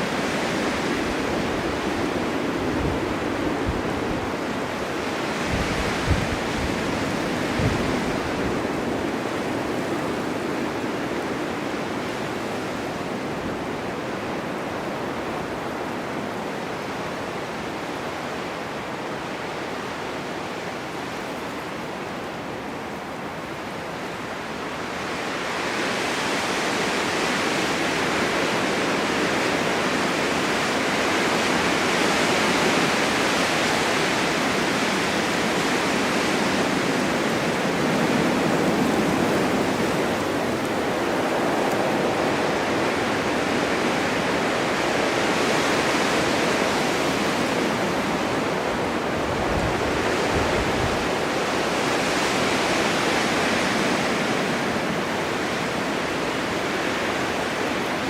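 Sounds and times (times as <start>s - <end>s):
blizzard wind blowing snow: 0.0s - 58.0s.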